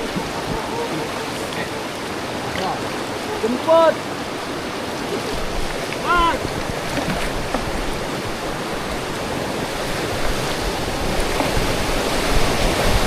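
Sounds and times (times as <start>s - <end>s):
rushing river water: 0.0s - 13.0s.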